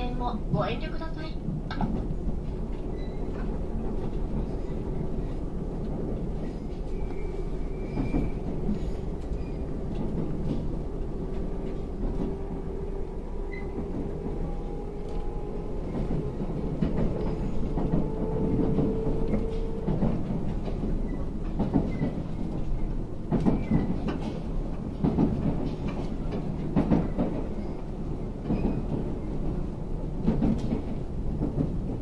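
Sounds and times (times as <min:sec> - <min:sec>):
train wheels rumbling on rails: 0:00.0 - 0:32.0
rail-joint clicks: 0:01.6 - 0:12.7, 0:13.4 - 0:32.0.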